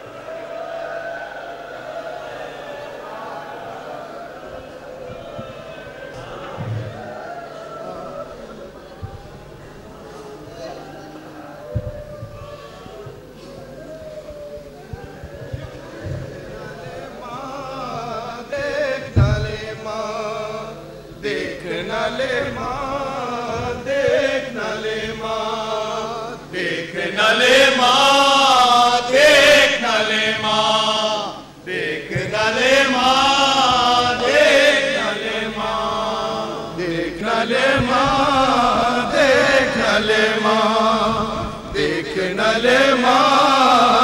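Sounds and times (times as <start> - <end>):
voices chanting a mournful lament: 0.0 - 44.0.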